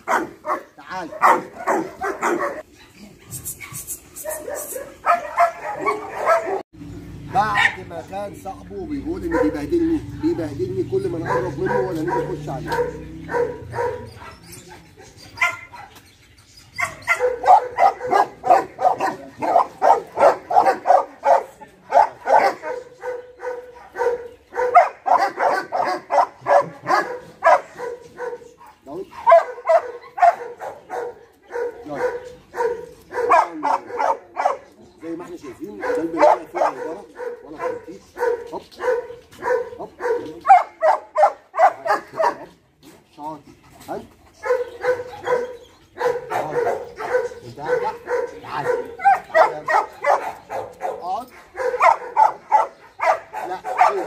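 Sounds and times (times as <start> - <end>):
dog barking: 0.0 - 2.7, 3.6 - 6.6, 7.4 - 8.0, 9.1 - 14.4, 15.0 - 16.0, 16.8 - 34.8, 35.4 - 42.6, 44.4 - 54.0.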